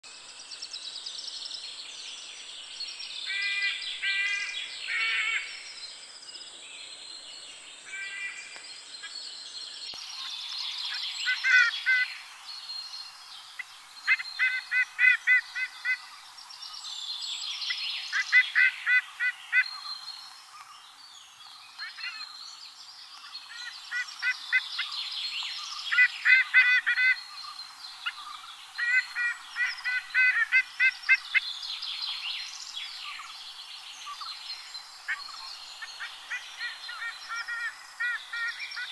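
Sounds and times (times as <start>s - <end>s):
faint high birdsong: 0.2s - 38.9s.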